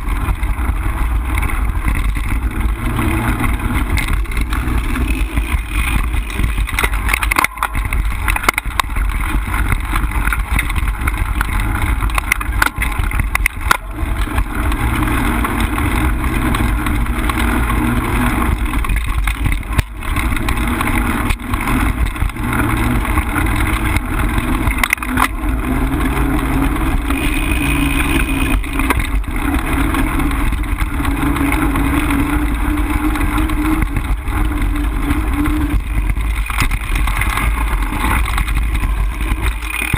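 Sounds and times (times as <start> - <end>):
bike knocking and rattling: 0.0 - 39.9
bike tyre noise on dirt: 0.0 - 39.9
wind rumble on microphone: 0.0 - 39.9.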